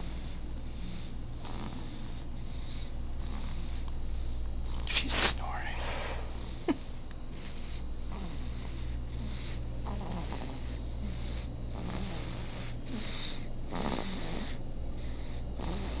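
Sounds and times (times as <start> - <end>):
rhythmic snoring: 0.0 - 4.9, 6.3 - 16.0.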